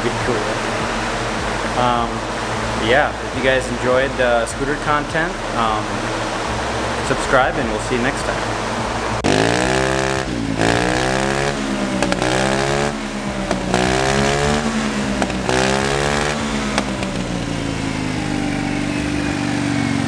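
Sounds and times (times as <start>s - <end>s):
exhaust pops: 0.0s - 20.0s
scooter engine revving: 0.0s - 20.0s.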